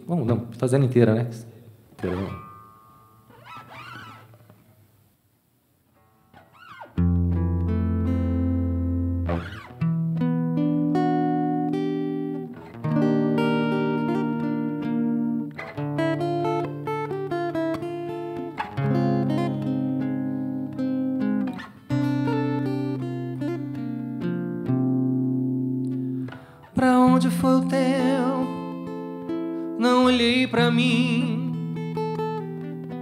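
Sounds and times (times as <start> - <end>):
acoustic guitar chords: 2.0 - 4.4, 5.9 - 33.0
high wavering guitar notes: 2.0 - 4.5, 6.0 - 33.0.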